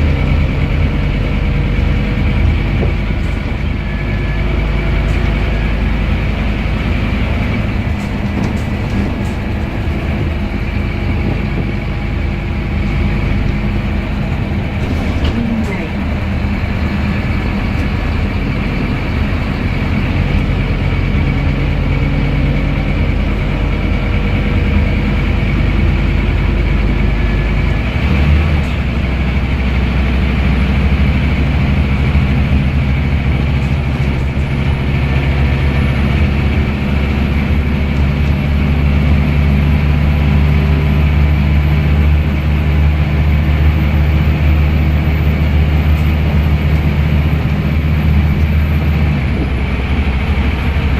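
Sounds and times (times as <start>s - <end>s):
bus engine droning: 0.0s - 50.9s.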